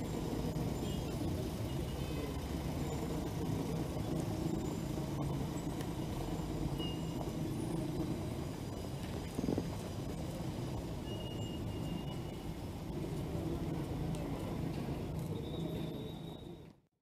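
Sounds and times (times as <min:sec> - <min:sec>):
urban background rumble: 0:00.0 - 0:16.9.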